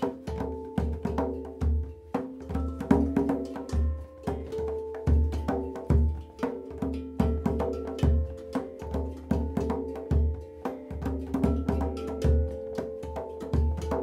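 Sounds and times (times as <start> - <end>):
handpan music: 0.0 - 14.0.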